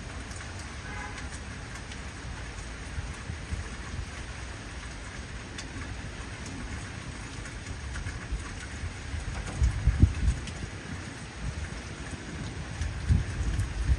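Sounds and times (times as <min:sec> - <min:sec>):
raindrops ticking: 0:00.0 - 0:13.9.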